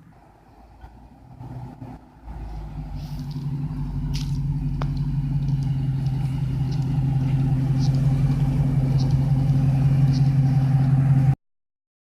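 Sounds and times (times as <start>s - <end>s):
car engine exhaust: 0.0s - 11.4s.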